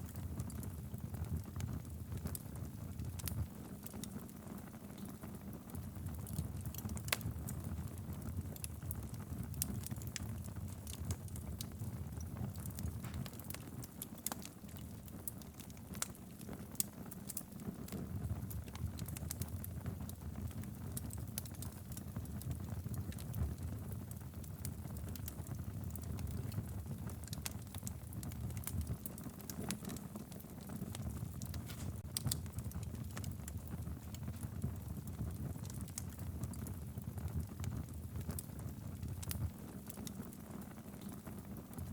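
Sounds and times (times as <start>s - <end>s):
fire rumbling: 0.0s - 41.9s
wood crackling and popping: 0.0s - 41.9s.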